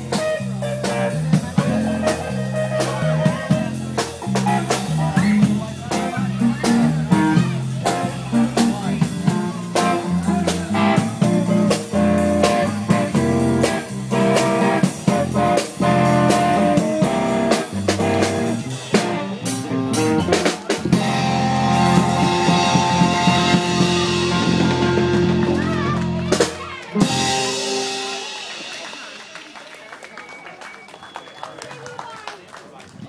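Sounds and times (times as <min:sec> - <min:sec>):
music with guitar and drums: 0:00.0 - 0:29.0.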